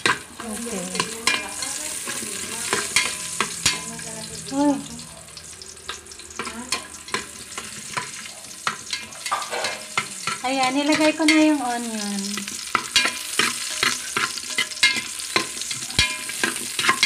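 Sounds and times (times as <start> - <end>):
ladle scraping pan: 0.0 - 4.1, 5.8 - 11.6, 12.4 - 17.0
garlic sizzling in oil: 0.0 - 17.0.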